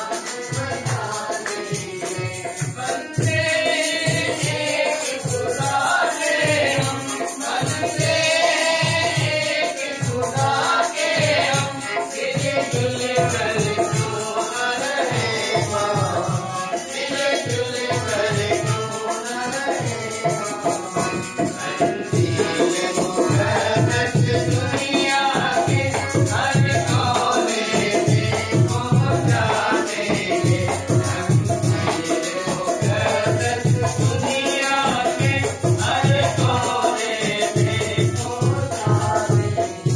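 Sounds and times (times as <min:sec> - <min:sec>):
steady drum beat: 0:00.0 - 0:39.9
voices singing: 0:00.0 - 0:39.9.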